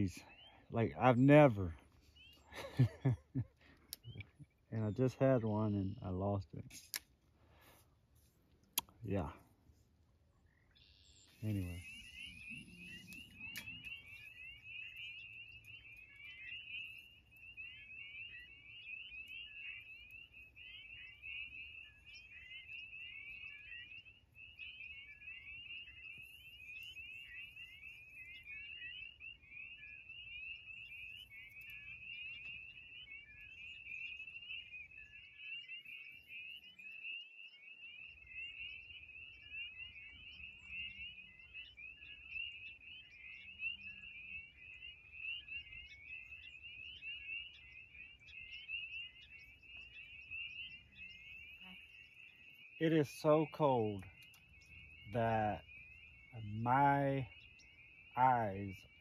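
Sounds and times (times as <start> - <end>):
frogs peeping: 0.0 - 59.0.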